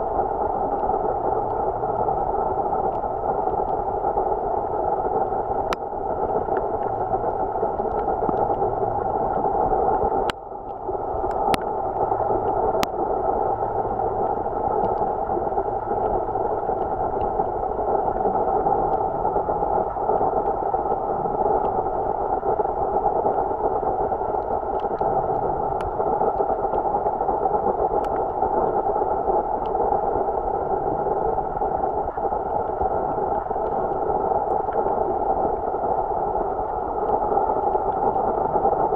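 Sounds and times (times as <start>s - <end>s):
muffled underwater water noise: 0.0s - 38.9s.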